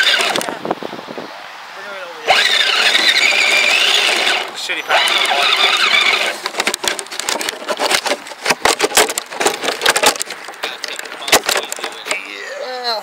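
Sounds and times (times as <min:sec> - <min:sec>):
toy tracks clattering: 0:00.0 - 0:00.5, 0:02.3 - 0:12.2.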